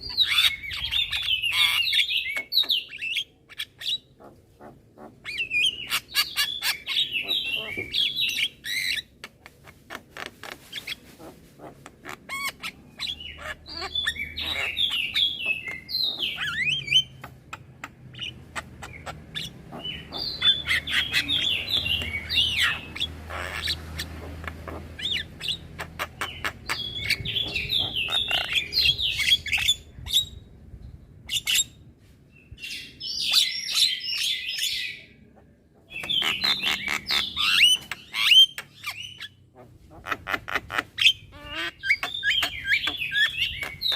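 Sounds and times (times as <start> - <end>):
bird chattering harshly: 0.0 - 29.7, 35.9 - 43.9.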